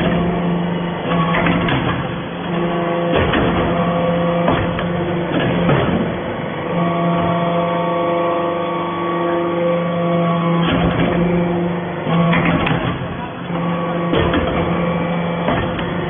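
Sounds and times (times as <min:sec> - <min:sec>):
hydraulic pump humming: 0:00.0 - 0:16.0.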